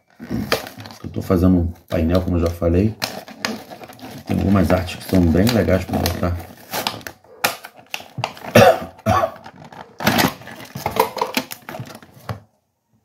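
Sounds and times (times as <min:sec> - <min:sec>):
plastic packaging crackling and snapping: 0:00.0 - 0:12.5.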